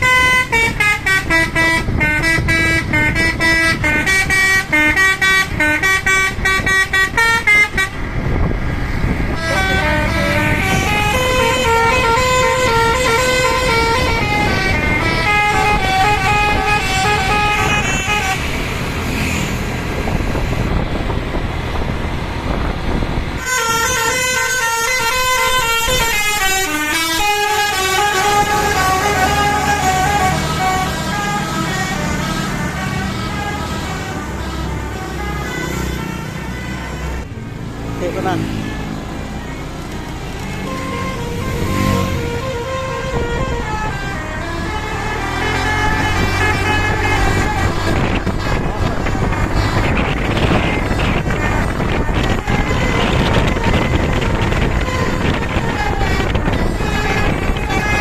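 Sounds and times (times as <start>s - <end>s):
multi-tone musical air horn melody: 0.0s - 8.0s, 9.3s - 19.4s, 23.4s - 37.3s, 40.2s - 58.0s
bus engine running: 0.0s - 58.0s.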